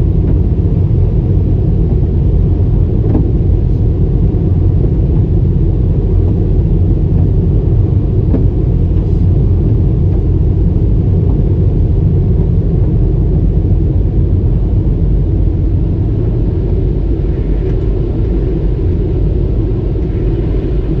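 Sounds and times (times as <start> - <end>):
car wash machinery rumbling: 0.0 - 21.0.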